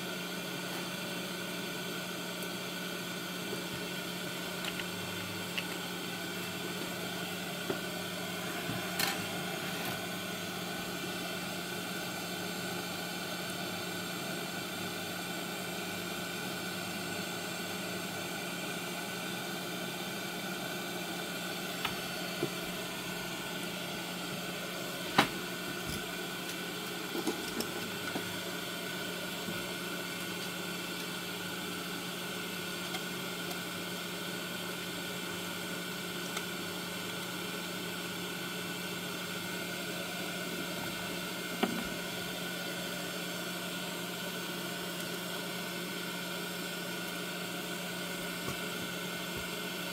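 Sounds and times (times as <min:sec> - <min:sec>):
electric fan whirring: 0:00.0 - 0:49.9.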